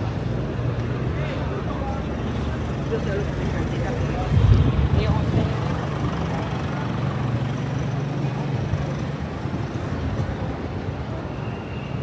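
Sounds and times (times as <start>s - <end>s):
street noise: 0.0s - 12.0s
traffic rumble: 0.0s - 12.0s.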